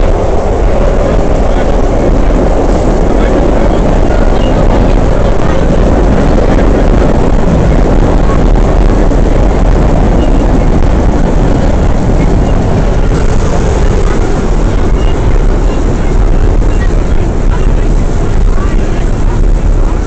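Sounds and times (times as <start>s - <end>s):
subway train rumbling on rails: 0.0s - 20.0s.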